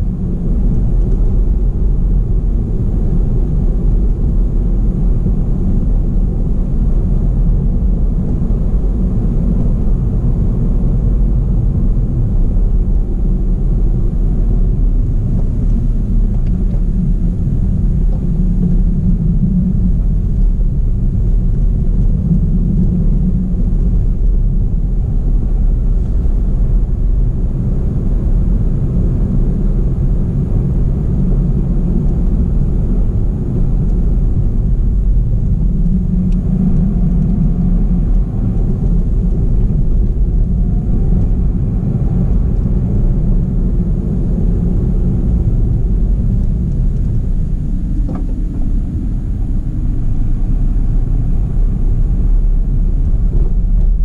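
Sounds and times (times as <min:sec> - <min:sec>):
car interior engine and tyre rumble: 0:00.0 - 0:54.0.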